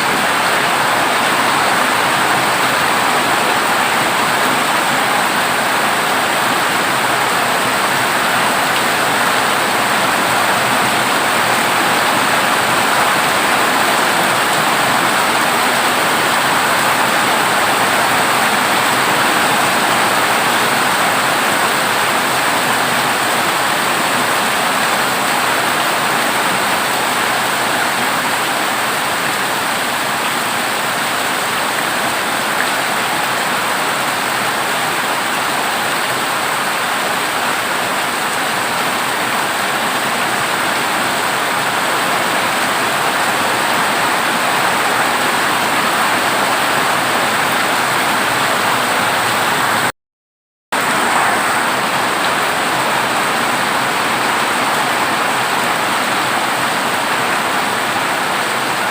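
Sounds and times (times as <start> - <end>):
heavy rain on a metal roof: 0.0 - 49.9, 50.7 - 58.9.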